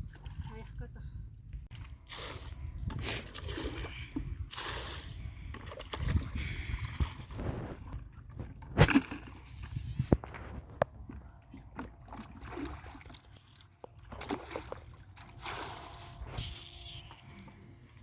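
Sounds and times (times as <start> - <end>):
water sloshing and splashing: 0.0 - 1.1, 1.7 - 18.0.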